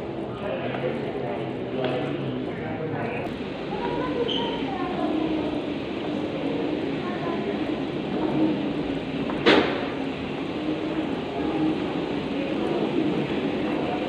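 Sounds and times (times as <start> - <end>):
faint voices: 0.0 - 14.0
indoor corridor hum: 0.0 - 14.0.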